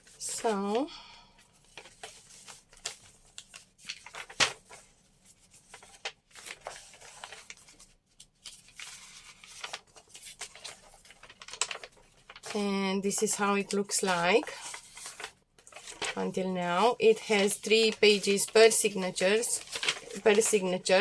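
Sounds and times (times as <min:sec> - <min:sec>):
paper pages rustling: 0:00.0 - 0:21.0.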